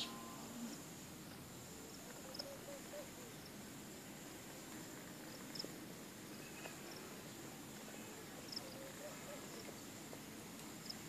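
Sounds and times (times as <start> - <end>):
steady high-pitched hum: 0.0 - 11.0.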